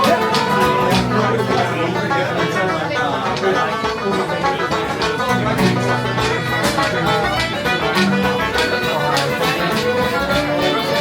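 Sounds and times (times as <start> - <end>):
live folk music strummed: 0.0 - 11.0.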